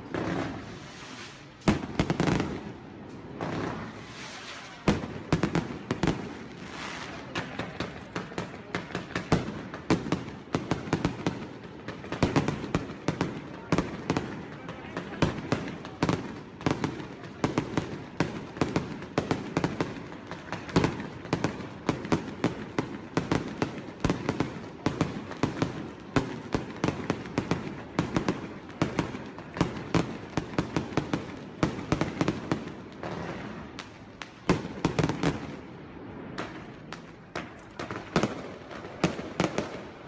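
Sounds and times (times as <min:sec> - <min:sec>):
fireworks bangs and cracks: 0:00.0 - 0:40.0.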